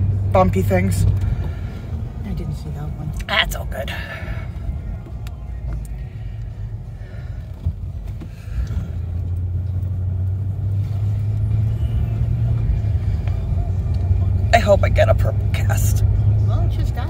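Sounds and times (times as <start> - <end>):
car driving heard from inside: 0.0 - 17.0.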